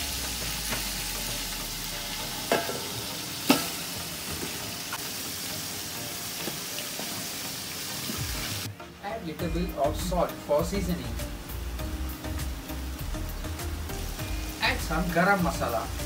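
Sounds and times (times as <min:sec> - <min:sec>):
paste sizzling in oil: 0:00.0 - 0:08.9, 0:09.6 - 0:16.0.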